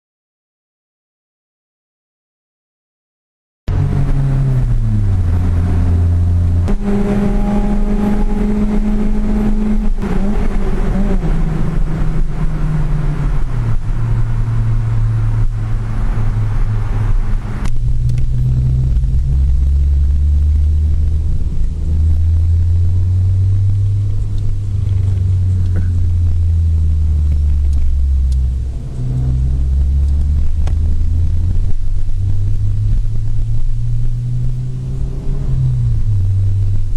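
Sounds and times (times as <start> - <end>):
car engine revving and idling: 3.7 - 36.9.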